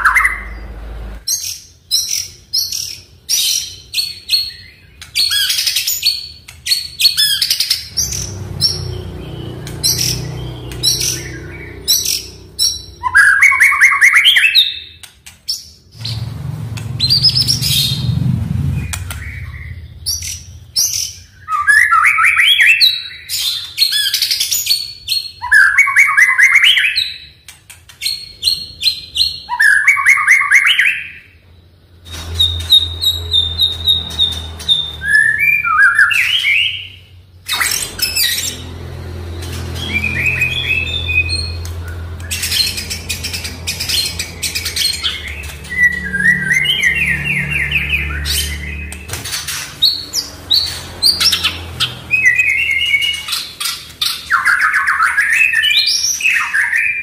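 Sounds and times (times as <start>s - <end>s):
songbird singing: 0.0s - 27.4s, 28.0s - 57.0s.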